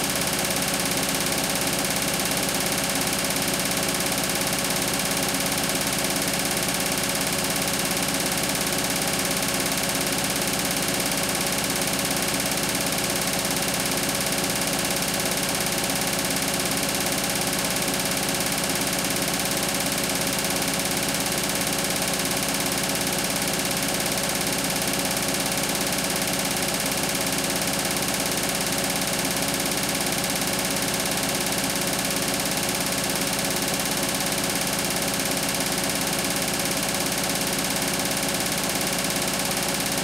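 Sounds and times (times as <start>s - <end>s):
washing machine motor whirr: 0.0s - 40.0s.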